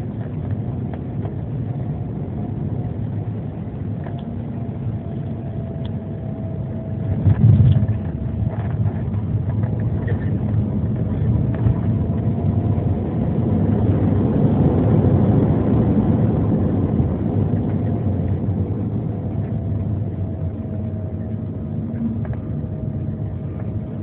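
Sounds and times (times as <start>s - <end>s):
jet cabin engine rumble and whine: 0.0s - 24.0s.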